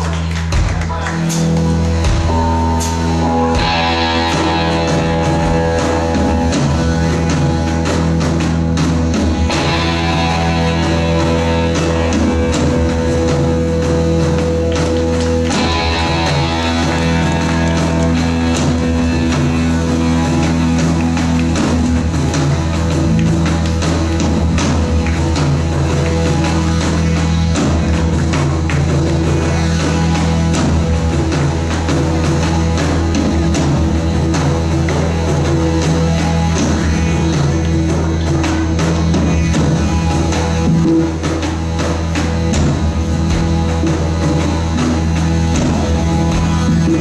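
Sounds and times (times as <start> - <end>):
bass: 0.0 - 47.0
drum kit: 0.0 - 47.0
electric guitars: 0.0 - 47.0
keyboards: 0.0 - 47.0.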